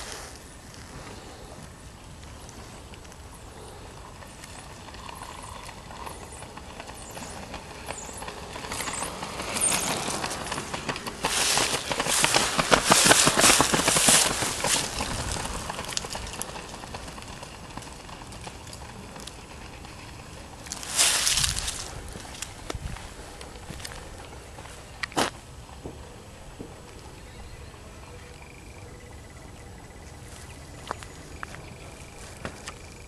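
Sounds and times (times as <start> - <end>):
runners' footsteps on asphalt: 0.4 - 27.1, 29.9 - 33.0.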